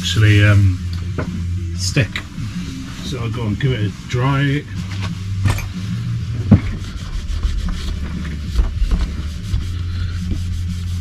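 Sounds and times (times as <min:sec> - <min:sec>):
cloth rubbing on plastic: 0:01.3 - 0:11.0.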